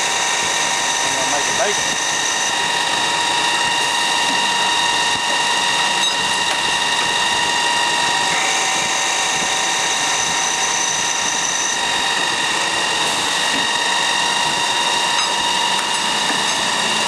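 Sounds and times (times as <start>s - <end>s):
chamfering machine whine: 0.0s - 17.0s.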